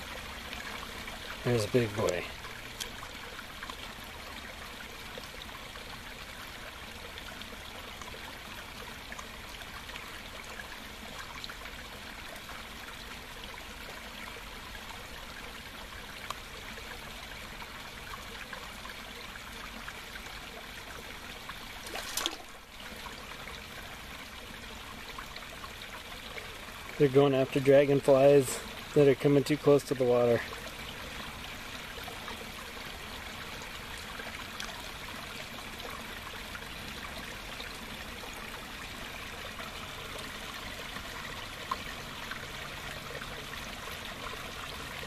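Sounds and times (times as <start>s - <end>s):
water trickling into pond: 0.0s - 45.0s.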